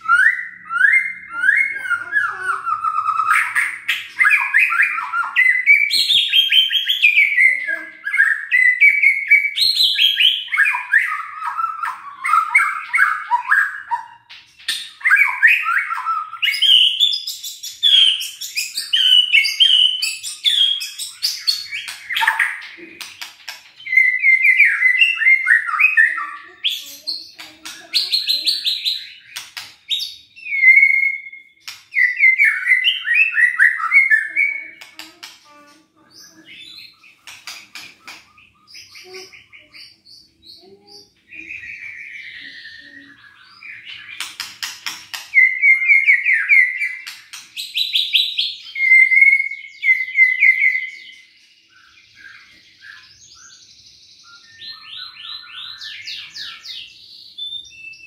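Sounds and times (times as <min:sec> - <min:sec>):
songbird whistling and trilling: 0:00.0 - 0:34.9, 0:36.1 - 0:58.0.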